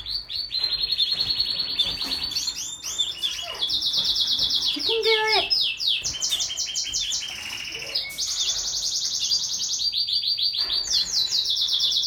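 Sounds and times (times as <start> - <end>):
baby birds chirping: 0.0 - 12.0.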